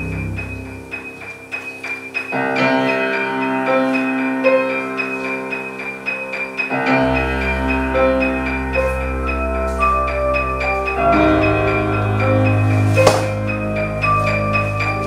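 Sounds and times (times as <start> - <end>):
grand piano playing: 0.0 - 15.0.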